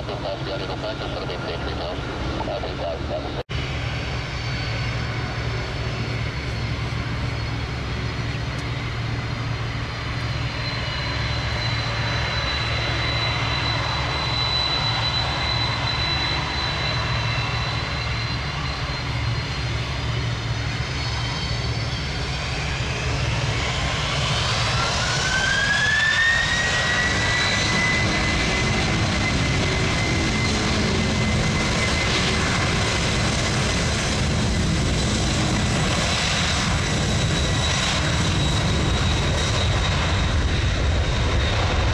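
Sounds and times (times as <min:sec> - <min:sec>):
jet engines whining and spooling up: 0:00.0 - 0:41.9.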